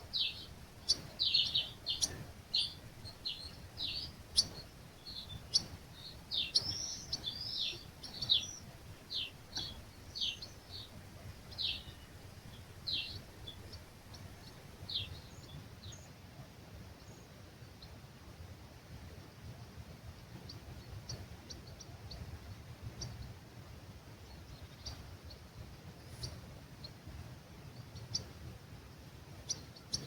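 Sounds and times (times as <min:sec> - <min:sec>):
small birds chirping: 0:00.0 - 0:16.2, 0:20.2 - 0:23.4, 0:24.1 - 0:27.0, 0:27.6 - 0:30.0.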